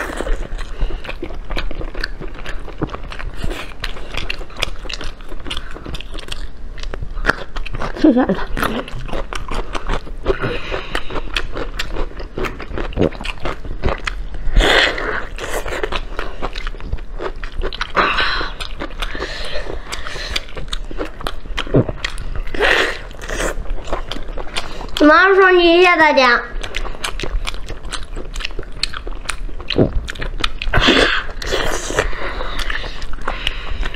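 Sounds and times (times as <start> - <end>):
wet chewing and smacking: 0.0 - 33.9.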